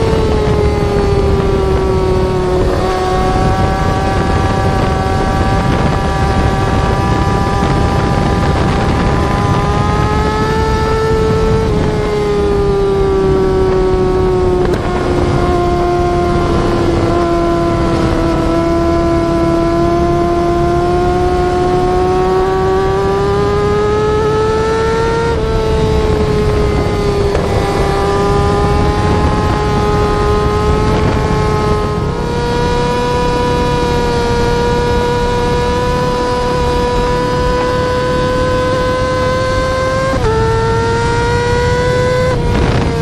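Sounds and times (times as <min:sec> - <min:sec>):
motorcycle engine revving high: 0:00.0 - 0:43.0.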